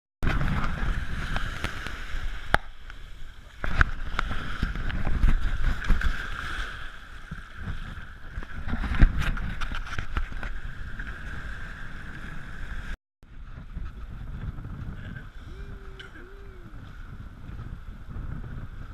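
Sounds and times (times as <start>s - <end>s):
shallow surf rumbling: 0.2s - 18.9s
wind on microphone: 0.2s - 18.9s.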